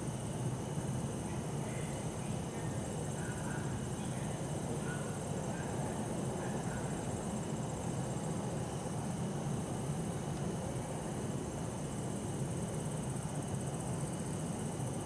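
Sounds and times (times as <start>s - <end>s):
crickets trilling: 0.0s - 15.0s
distant city traffic hum: 0.0s - 15.0s.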